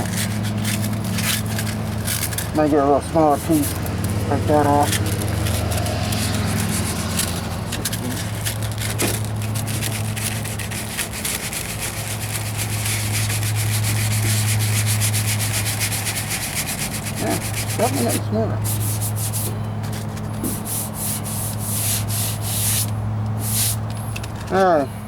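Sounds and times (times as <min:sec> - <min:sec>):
sandpaper rubbing on metal: 0:00.0 - 0:23.9.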